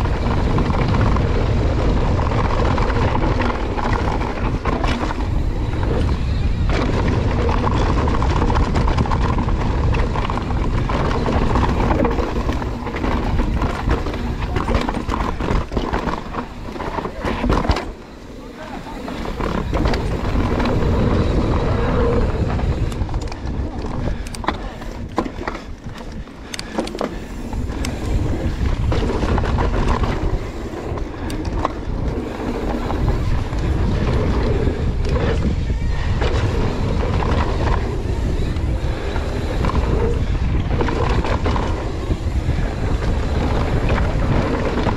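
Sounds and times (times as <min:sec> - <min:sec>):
bike rattling over bumps: 0:00.0 - 0:44.9
bike tyres rolling over dirt: 0:00.0 - 0:44.9
wind on microphone: 0:00.0 - 0:44.9.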